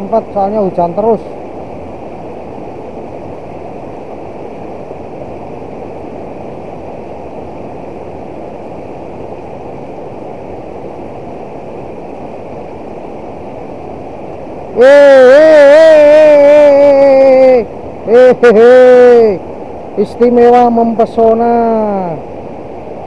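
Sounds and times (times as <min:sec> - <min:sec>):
river water rushing around rocks: 0:00.0 - 0:23.0.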